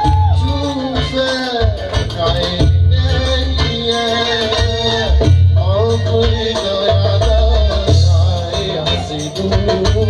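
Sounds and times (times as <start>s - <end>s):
deep bass beat: 0.0s - 10.0s.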